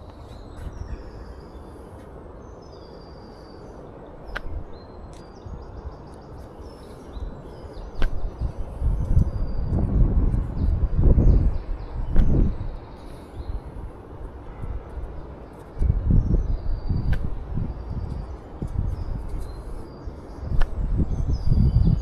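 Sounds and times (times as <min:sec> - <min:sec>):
birds chirping: 0:00.0 - 0:22.0
wind rumble on microphone: 0:00.0 - 0:22.0.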